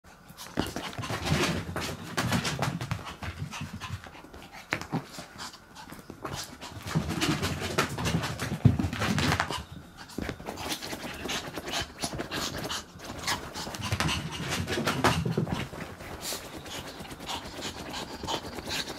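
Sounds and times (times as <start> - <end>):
dog panting: 0.2 - 18.9.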